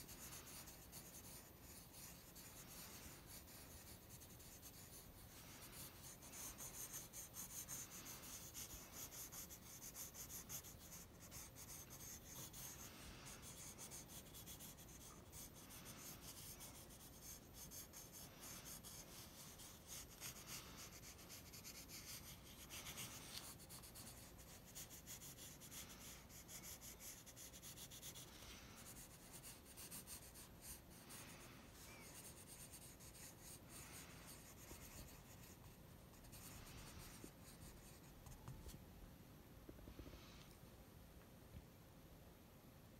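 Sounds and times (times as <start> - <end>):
pencil scribbling on paper: 0.0 - 38.7.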